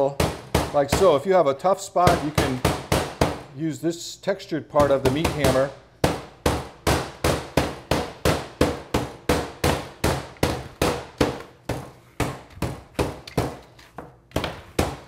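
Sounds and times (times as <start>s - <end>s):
meat mallet pounding meat: 0.0s - 1.3s, 2.0s - 3.5s, 4.8s - 13.7s, 14.3s - 15.0s.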